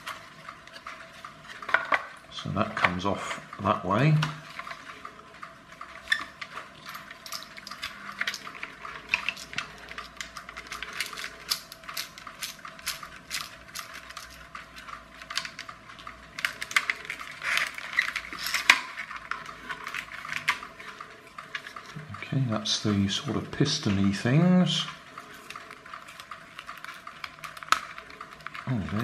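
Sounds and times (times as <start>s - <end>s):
plastic toy parts clicking: 0.0s - 29.0s.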